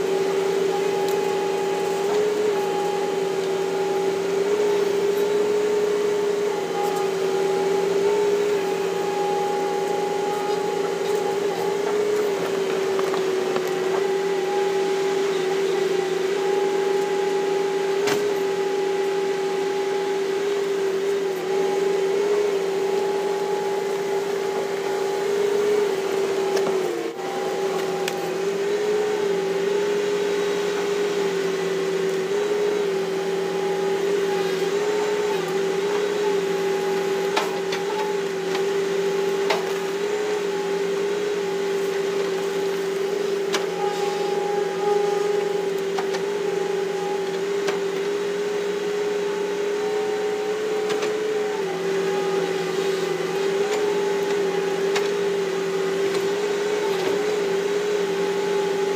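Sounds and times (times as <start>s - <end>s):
excavator engine and hydraulic whine: 0.0s - 58.9s.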